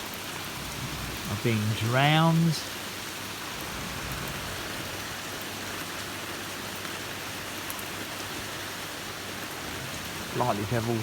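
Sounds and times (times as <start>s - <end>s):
torrential rain pouring: 0.0s - 11.0s.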